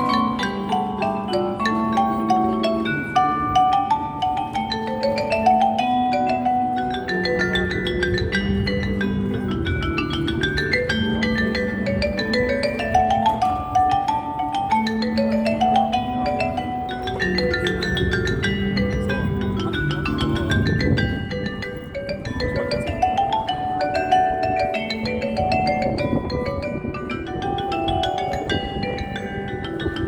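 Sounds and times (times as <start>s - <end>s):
mallet percussion music: 0.0s - 30.0s.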